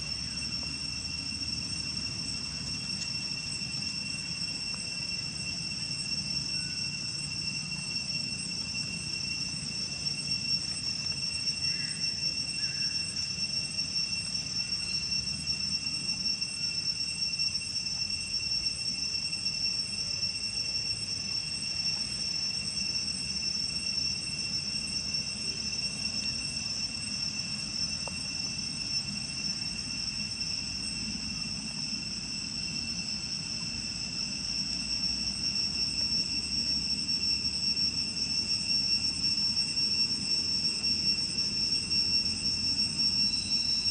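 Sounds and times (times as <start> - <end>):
insects buzzing: 0.0 - 43.9.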